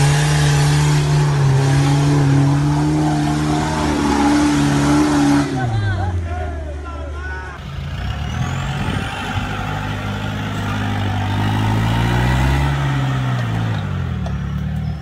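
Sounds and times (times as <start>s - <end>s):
diesel engine pulling under load: 0.0s - 6.5s, 7.6s - 15.0s.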